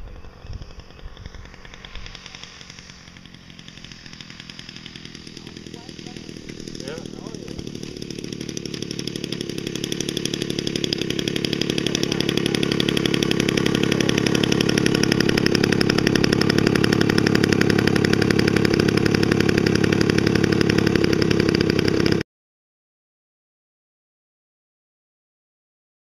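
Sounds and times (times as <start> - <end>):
model plane engine idling: 0.0 - 22.2.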